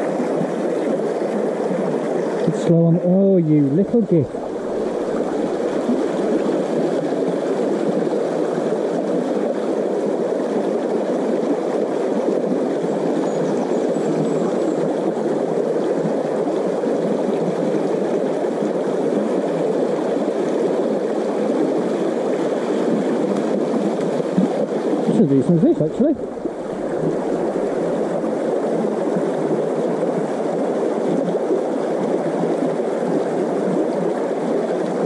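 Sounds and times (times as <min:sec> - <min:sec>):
river rushing over rocks: 0:00.0 - 0:13.2, 0:13.8 - 0:35.0.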